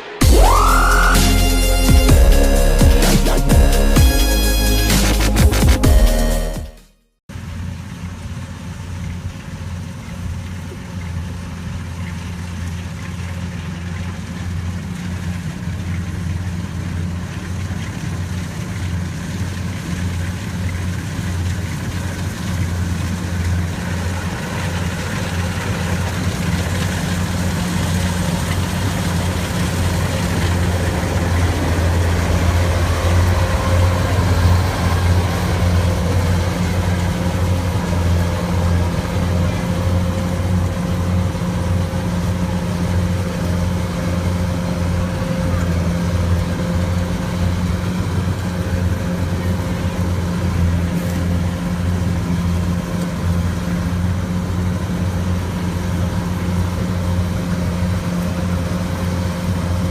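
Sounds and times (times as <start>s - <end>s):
harvester engine humming: 0.0s - 6.6s, 7.5s - 59.9s.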